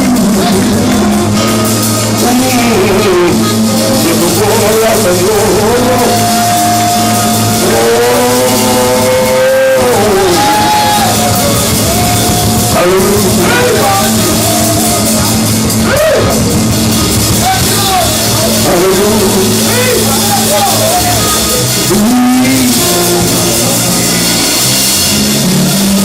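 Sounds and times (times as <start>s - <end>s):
drum kit: 0.0s - 26.0s
steady bass: 0.0s - 26.0s.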